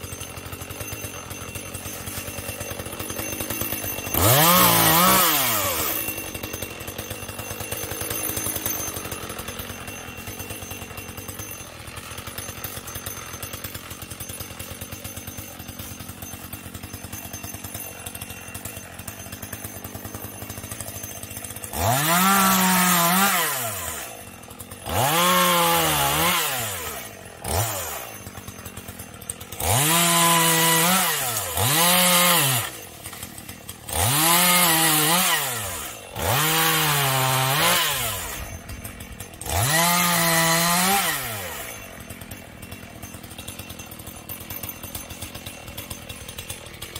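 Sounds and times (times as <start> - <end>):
chainsaw idling and revving: 0.0 - 46.9.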